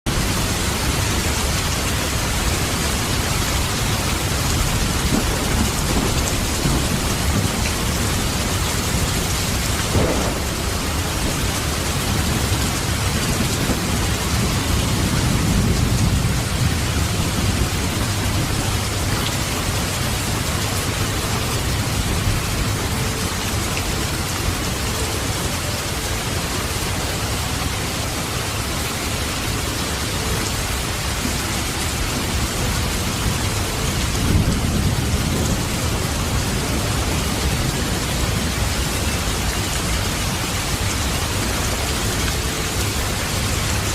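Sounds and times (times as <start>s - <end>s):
heavy rain: 0.0s - 43.9s
low thunder rumble: 0.1s - 24.8s, 30.0s - 41.2s.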